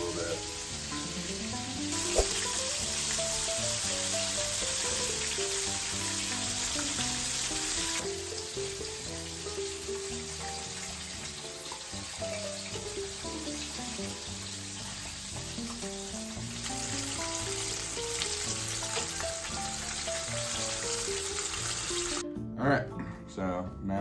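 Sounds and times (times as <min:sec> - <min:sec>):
chicken frying in hot oil: 0:00.0 - 0:22.2
background music: 0:00.0 - 0:24.0.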